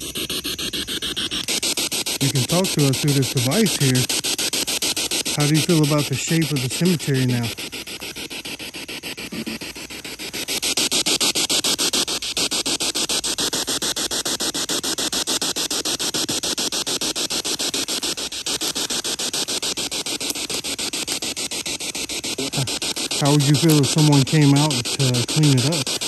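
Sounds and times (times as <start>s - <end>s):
pulsing radio static: 0.0s - 26.0s.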